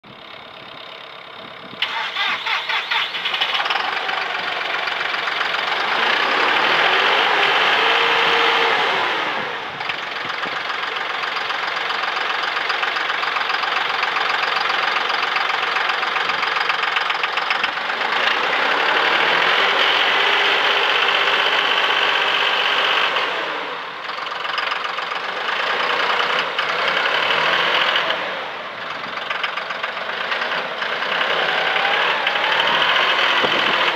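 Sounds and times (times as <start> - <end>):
diesel tractor engine starting and revving: 0.0 - 33.9.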